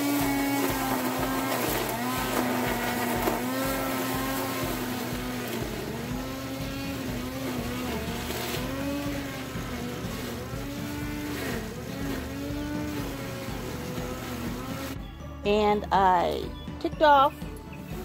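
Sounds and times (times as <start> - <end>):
electric string trimmer whining: 0.0 - 15.0.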